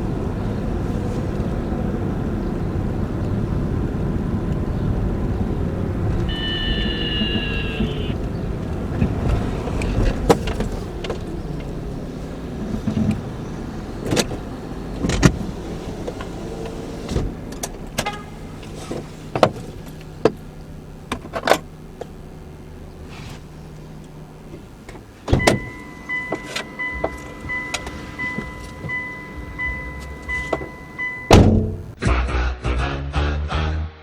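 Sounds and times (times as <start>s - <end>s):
car engine and road rumble: 0.0s - 32.0s
engine idle hum: 0.0s - 32.0s.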